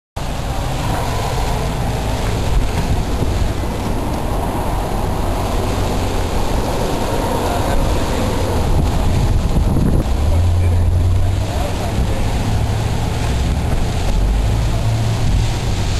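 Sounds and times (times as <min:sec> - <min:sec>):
blizzard wind buffeting microphone: 0:00.2 - 0:15.9.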